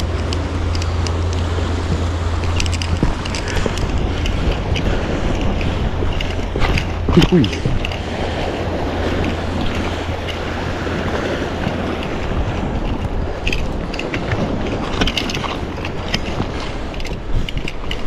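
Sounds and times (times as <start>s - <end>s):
light clicks and taps: 0.0s - 8.0s, 11.1s - 18.0s
steady low drone: 0.0s - 18.0s
wind buffeting the microphone: 0.0s - 18.0s.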